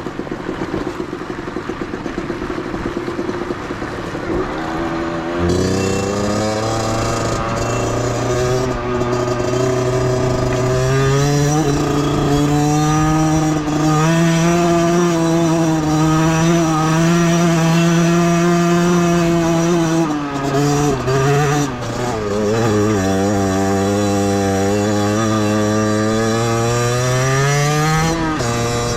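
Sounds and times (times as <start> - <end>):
motorcycle engine buzzing: 0.0 - 28.9.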